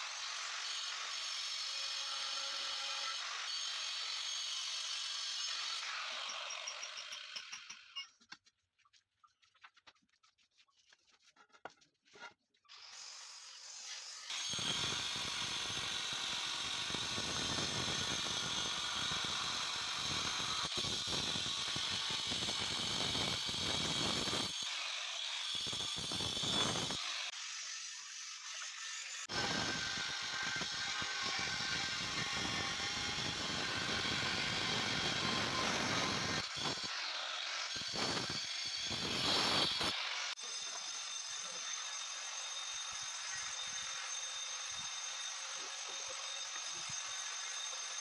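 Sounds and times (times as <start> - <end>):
electric stone cutter grinding: 0.0 - 8.1, 12.7 - 48.0.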